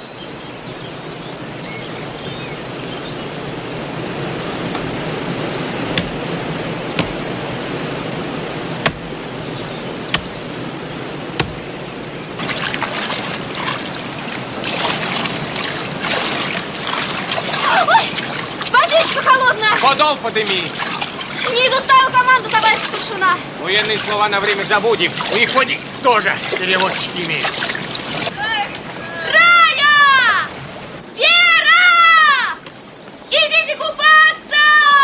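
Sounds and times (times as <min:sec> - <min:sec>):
stream and waterfall rushing: 0:00.0 - 0:35.0
people wading through water: 0:03.6 - 0:32.5.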